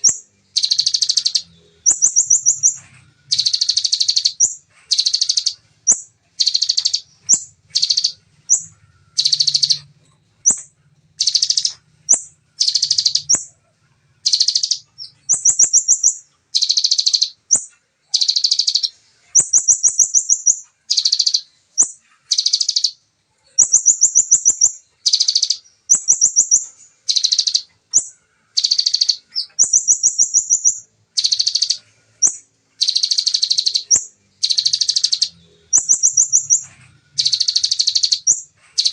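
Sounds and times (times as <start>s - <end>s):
bird chattering song with high trill: 0.0s - 38.9s.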